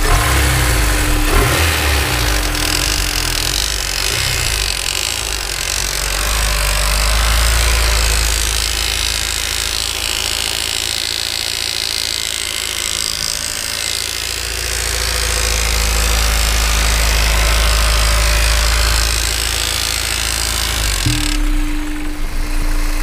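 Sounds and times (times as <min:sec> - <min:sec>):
car engine running: 0:00.0 - 0:23.0
metallic timing chain rattle: 0:00.0 - 0:23.0.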